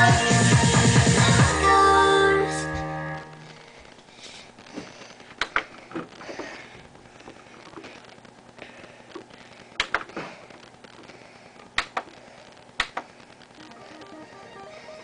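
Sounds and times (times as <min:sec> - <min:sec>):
faint room hiss: 0:01.5 - 0:15.0.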